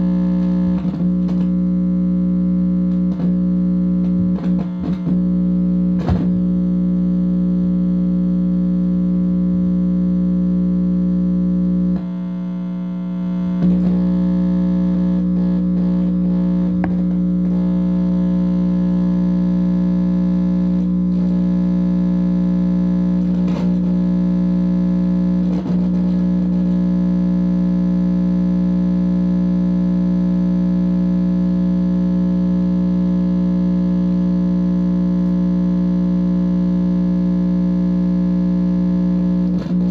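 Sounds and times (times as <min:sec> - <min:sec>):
distorted electrical buzz: 0:00.0 - 0:39.9.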